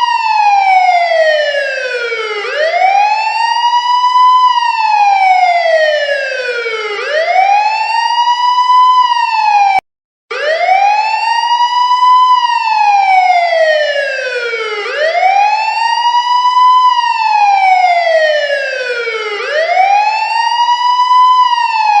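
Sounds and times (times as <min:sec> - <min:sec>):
police siren wailing: 0:00.0 - 0:22.0.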